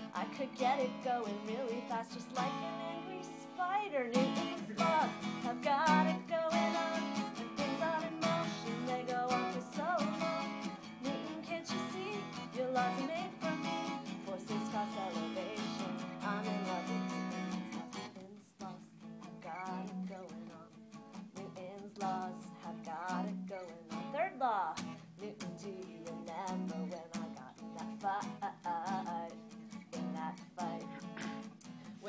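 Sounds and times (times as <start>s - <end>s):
acoustic guitar strumming: 0.0s - 32.0s
woman singing: 0.0s - 32.0s.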